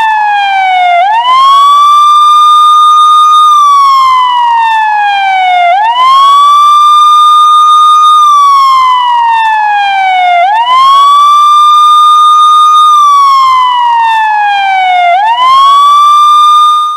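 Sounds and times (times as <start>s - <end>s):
police siren wailing: 0.0s - 16.9s.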